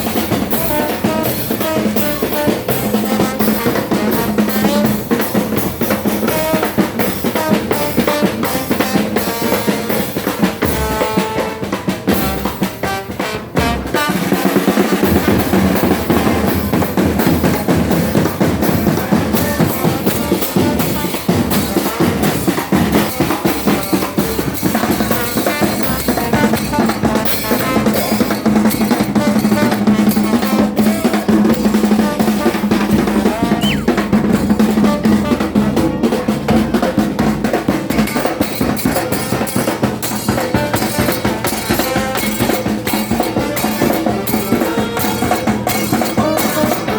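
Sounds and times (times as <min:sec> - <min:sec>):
wind instruments melody: 0:00.0 - 0:37.8, 0:39.3 - 0:46.9
snare and bass drum beat: 0:00.0 - 0:46.9.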